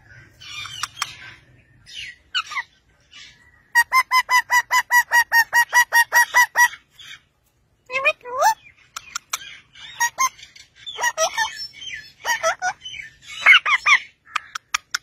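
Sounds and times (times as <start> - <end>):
parakeet chirping and squawking: 0.0 - 7.3, 8.0 - 15.0.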